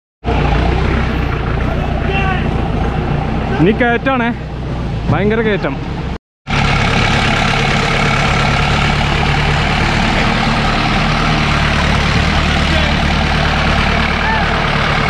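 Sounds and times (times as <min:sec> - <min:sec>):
jeep engine running: 0:00.2 - 0:15.0.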